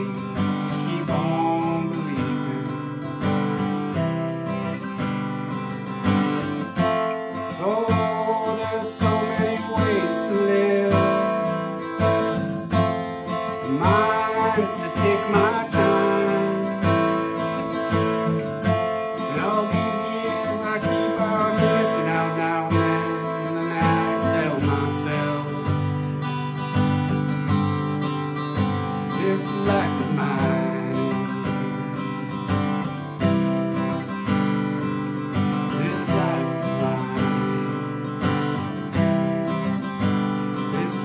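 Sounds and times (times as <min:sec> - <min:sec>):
acoustic guitar strummed chords: 0:00.0 - 0:41.0.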